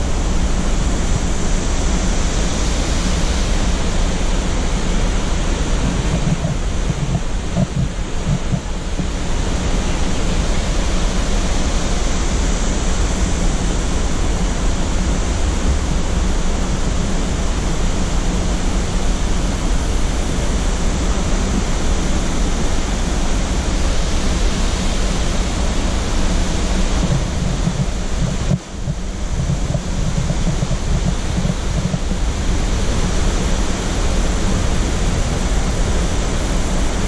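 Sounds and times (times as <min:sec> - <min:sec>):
waterfall and rapids rushing: 0:00.0 - 0:37.0.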